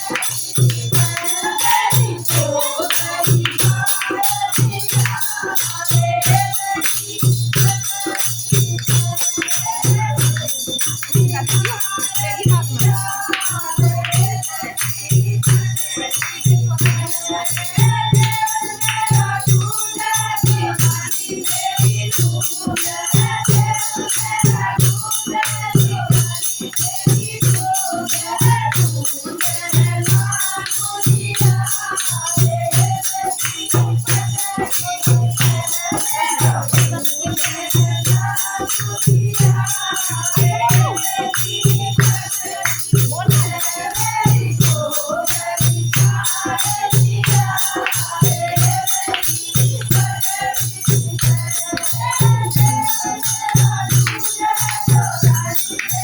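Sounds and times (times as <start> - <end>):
driving drum beat: 0.0 - 56.0
jingling rattle percussion: 0.0 - 56.0
person singing devotional song: 0.0 - 56.0.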